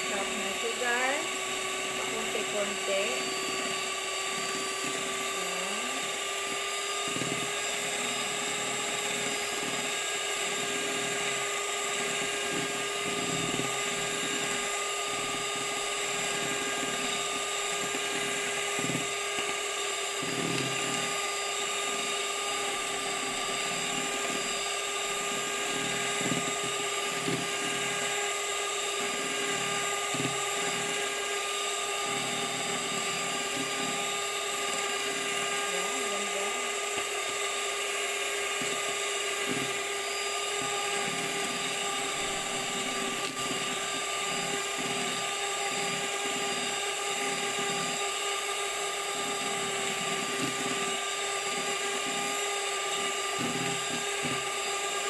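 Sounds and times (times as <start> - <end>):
beaters churning in bowl: 0.0 - 55.0
electric hand mixer whining: 0.0 - 55.0.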